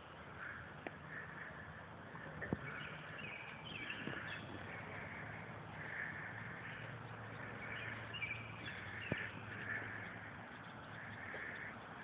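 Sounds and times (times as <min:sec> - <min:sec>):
animals calling: 0:00.0 - 0:12.0.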